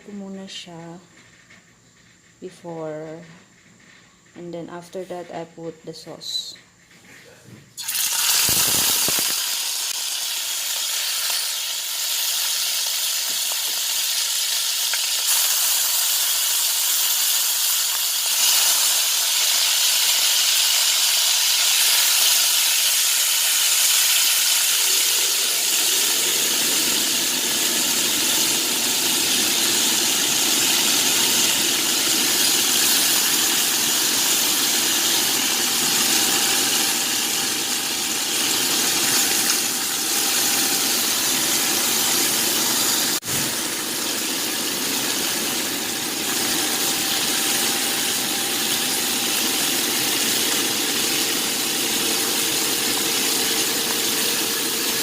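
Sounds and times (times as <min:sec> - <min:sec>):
chicken sizzling in hot oil: 0:07.8 - 0:55.0.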